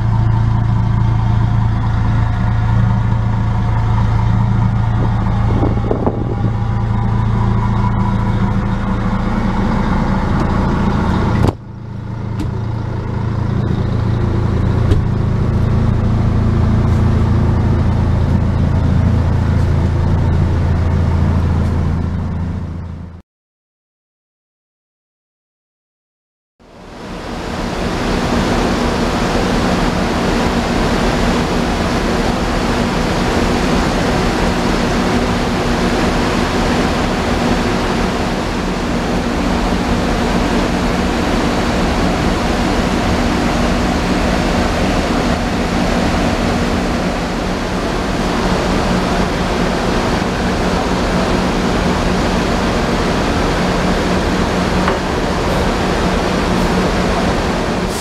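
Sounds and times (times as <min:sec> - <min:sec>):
wash of noise: 0:00.0 - 0:21.5, 0:26.7 - 0:58.0
diesel bus engine idling: 0:00.0 - 0:23.2, 0:26.6 - 0:58.0.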